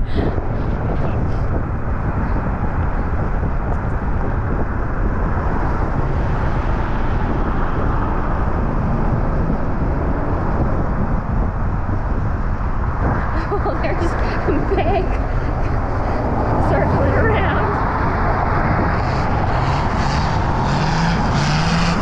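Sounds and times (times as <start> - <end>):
vehicle road noise at speed: 0.0 - 22.0.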